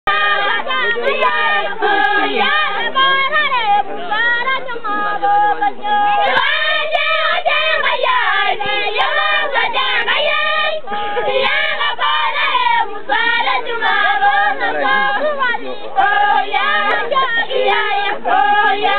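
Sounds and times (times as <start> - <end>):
women singing together: 0.1 - 18.9.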